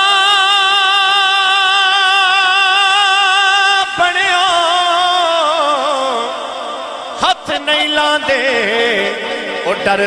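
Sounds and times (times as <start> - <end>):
man singing with vibrato: 0.0 - 10.0.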